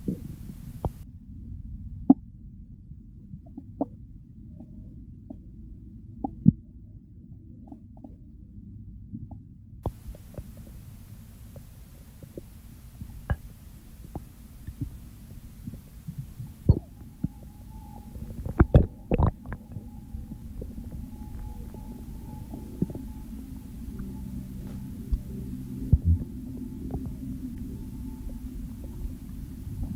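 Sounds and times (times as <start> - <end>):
stomach rumbling and gurgling: 0.0 - 29.9.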